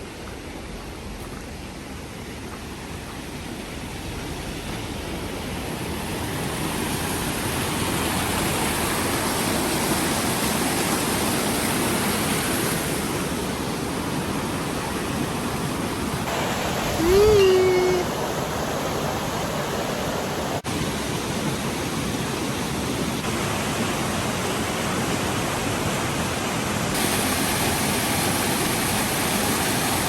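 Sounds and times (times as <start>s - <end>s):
rushing falling water: 0.0s - 30.0s.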